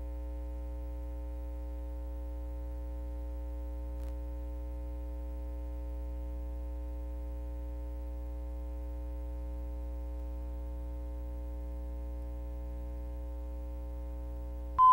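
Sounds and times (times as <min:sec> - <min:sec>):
electrical mains hum: 0:00.0 - 0:14.9.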